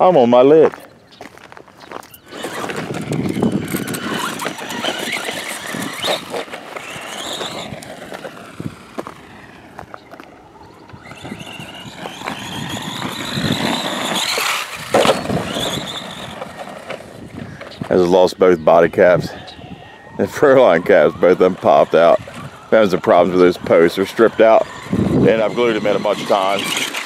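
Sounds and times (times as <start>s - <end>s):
tyres crunching on gravel: 0.0s - 27.0s
rc truck motor whining: 1.9s - 27.0s.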